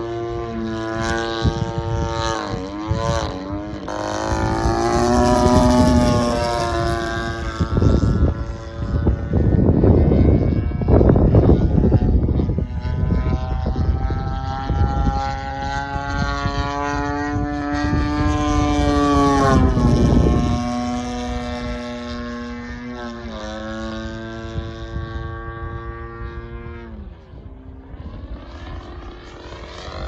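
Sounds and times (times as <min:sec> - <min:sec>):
model plane engine droning: 0:00.0 - 0:30.0
wind buffeting microphone: 0:00.0 - 0:30.0.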